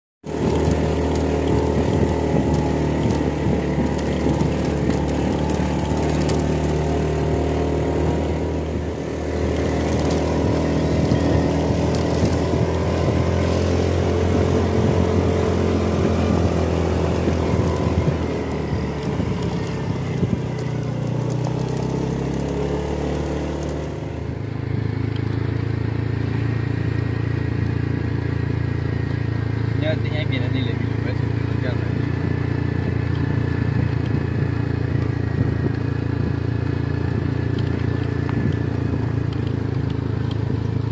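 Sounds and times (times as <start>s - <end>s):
vehicle engine driving: 0.2s - 40.9s
wind and road noise: 0.2s - 40.9s.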